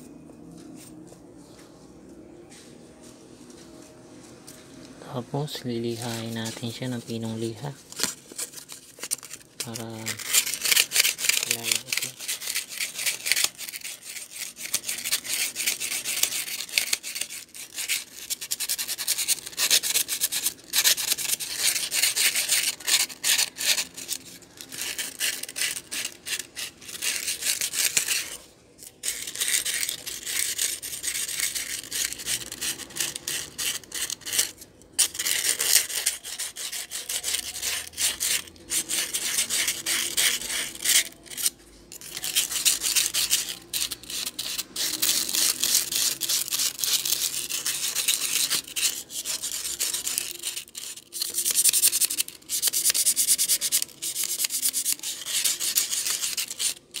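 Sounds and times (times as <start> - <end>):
sandpaper scratching steel shaft: 5.4 - 28.4, 29.0 - 57.0.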